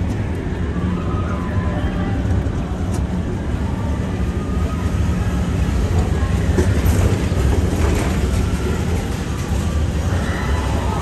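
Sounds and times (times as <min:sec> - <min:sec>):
train rumbling along track: 0:00.0 - 0:11.0.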